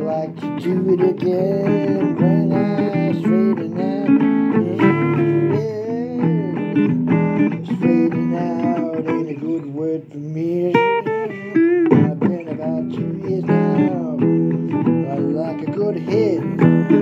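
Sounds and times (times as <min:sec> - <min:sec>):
blues guitar playing: 0:00.0 - 0:17.0.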